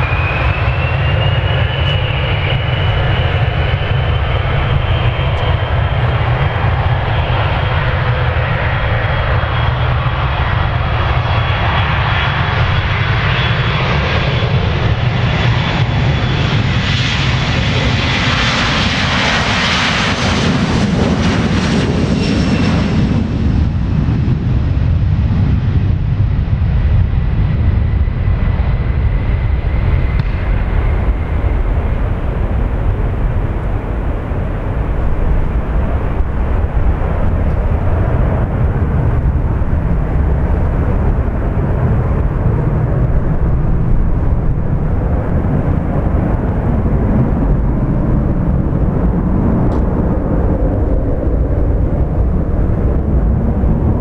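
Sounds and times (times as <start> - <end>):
jet engines rumbling at takeoff: 0.0 - 54.0.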